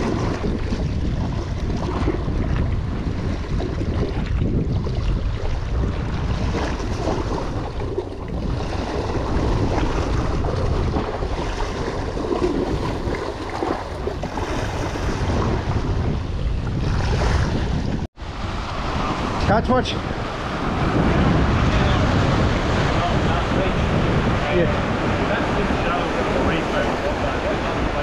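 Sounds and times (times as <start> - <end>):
waves splashing against rock: 0.0 - 28.0
wind buffeting microphone: 0.0 - 28.0.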